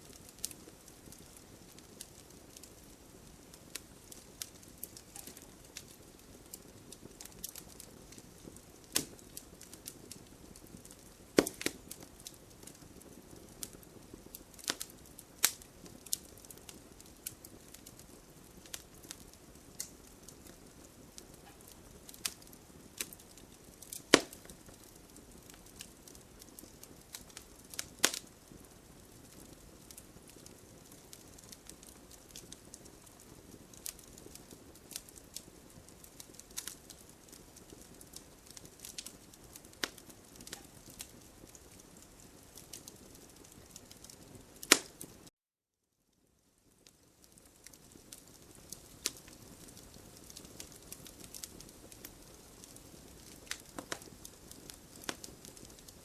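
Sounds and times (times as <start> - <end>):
campfire crackling: 0.0 - 45.3, 46.2 - 56.0
fire pops and snaps: 0.0 - 45.3, 46.7 - 56.0.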